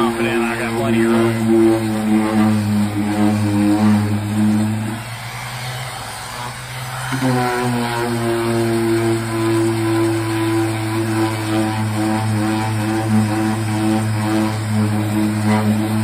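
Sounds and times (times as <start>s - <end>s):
orbital sander sanding paint: 0.0s - 16.0s.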